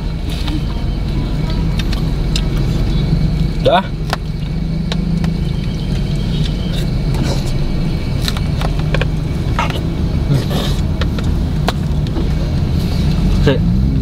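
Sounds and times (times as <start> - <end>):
car cabin hum: 0.0 - 13.6.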